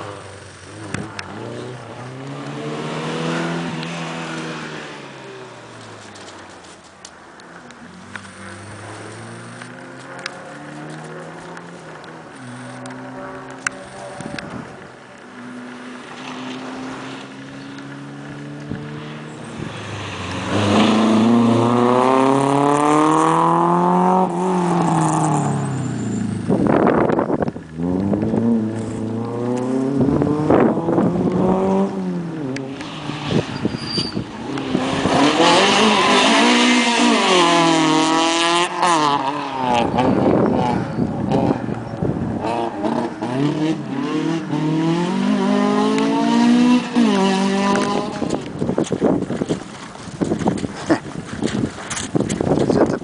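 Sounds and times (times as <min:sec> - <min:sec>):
rally cars revving past: 0:00.0 - 0:06.3, 0:07.7 - 0:49.2.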